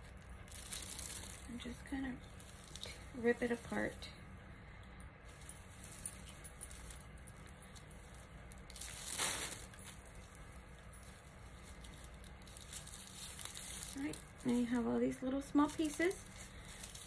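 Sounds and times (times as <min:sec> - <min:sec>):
raffia strands rustling: 0:00.0 - 0:17.0.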